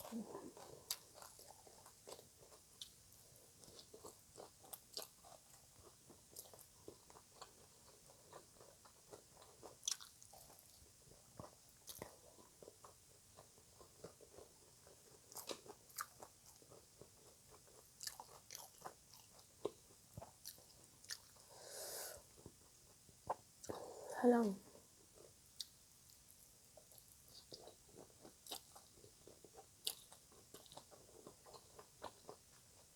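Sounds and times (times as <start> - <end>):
chewing and crunching: 0.0 - 21.6, 24.7 - 32.9.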